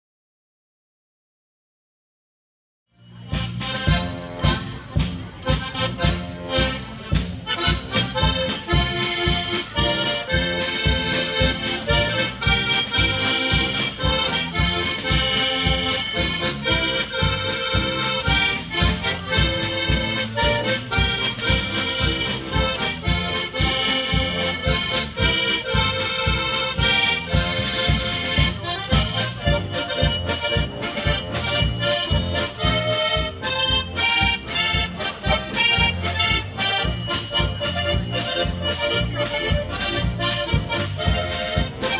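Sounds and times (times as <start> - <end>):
accordions playing: 3.0 - 41.9
drums and guitar beat: 3.0 - 41.9.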